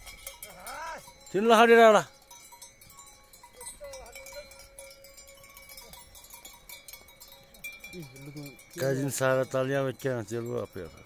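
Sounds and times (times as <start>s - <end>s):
animal bells ringing: 0.0s - 11.0s.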